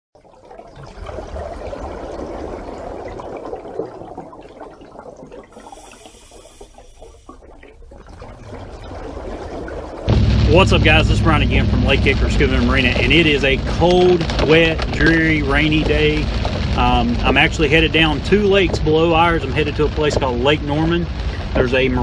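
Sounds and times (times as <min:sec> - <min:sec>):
water bubbling and pouring: 0:00.2 - 0:22.0.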